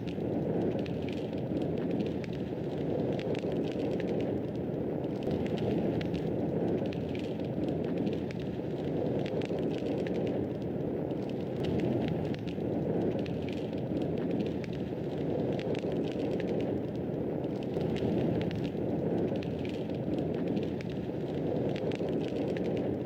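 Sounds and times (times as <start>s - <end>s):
fire crackling and snapping: 0.0s - 23.0s.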